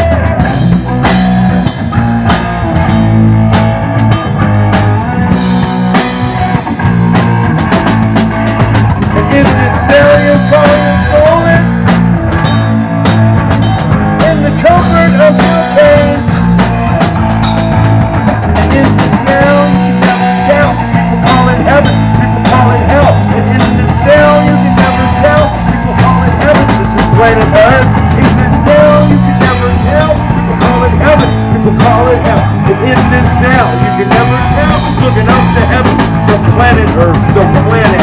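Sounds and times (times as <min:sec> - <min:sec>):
lead guitar with bent notes: 0:00.0 - 0:38.0
rock band playing: 0:00.0 - 0:38.0.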